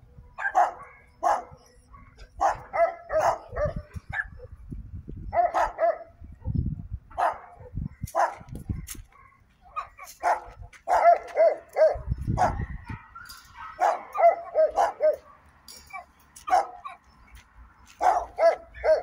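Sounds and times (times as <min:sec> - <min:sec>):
dogs barking: 0:00.3 - 0:04.5, 0:05.3 - 0:17.2, 0:17.9 - 0:19.0.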